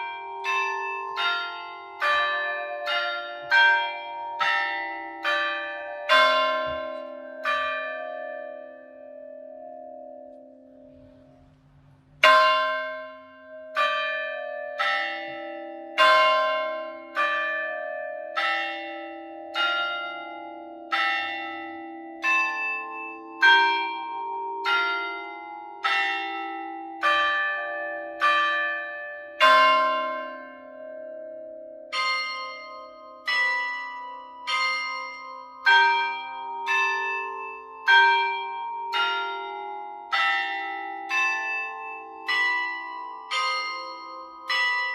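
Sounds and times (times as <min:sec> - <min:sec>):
church bells playing a hymn tune: 0:00.0 - 0:44.9.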